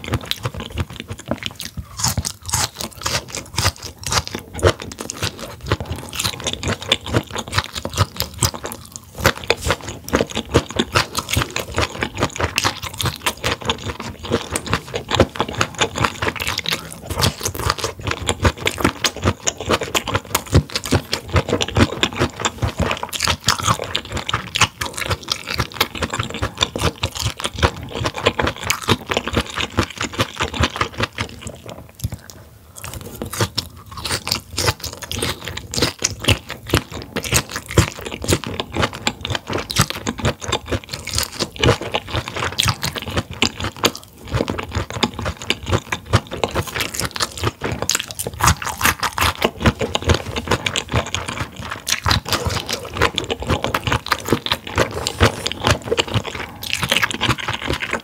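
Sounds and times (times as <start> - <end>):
crunchy wet chewing: 0.0 - 58.0.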